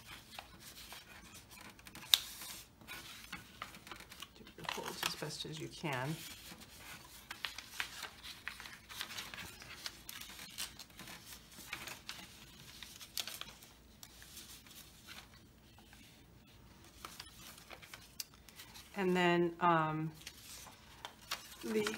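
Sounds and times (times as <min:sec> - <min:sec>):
paper crinkling and rustling: 0:00.0 - 0:19.0, 0:20.1 - 0:21.9.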